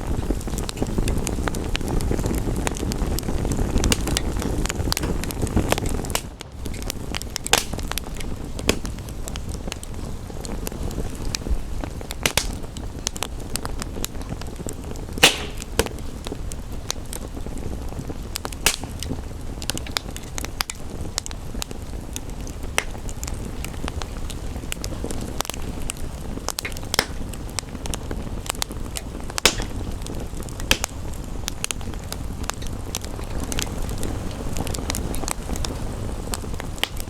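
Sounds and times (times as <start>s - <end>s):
logs popping: 0.0s - 37.0s
rain rushing: 0.0s - 37.0s
wood fire crackling: 0.0s - 37.0s.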